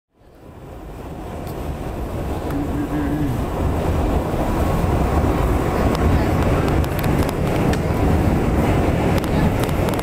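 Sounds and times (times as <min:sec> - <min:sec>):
subway train rumble: 0:00.1 - 0:10.0.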